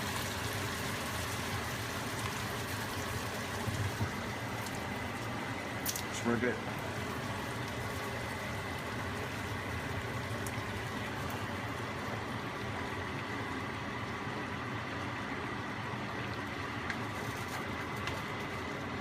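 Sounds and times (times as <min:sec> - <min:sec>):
pot simmering and bubbling: 0:00.0 - 0:19.0.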